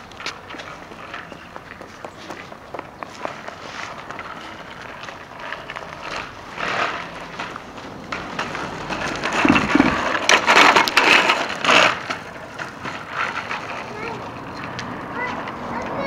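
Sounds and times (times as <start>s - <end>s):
bicycle wheels rattling on asphalt: 0.0s - 16.0s.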